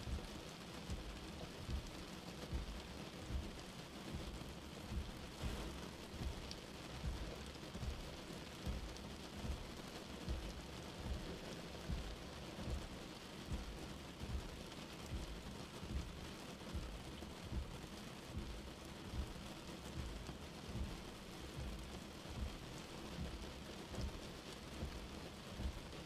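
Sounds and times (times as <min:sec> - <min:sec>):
rain on car windshield: 0:00.0 - 0:26.0.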